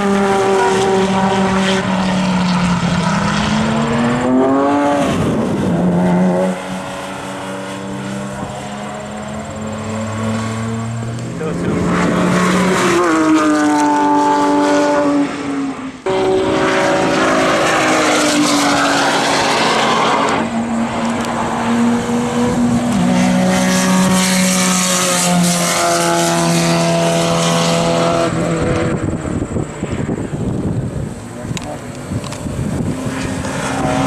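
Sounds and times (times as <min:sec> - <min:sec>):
race cars passing at speed: 0:00.0 - 0:34.0.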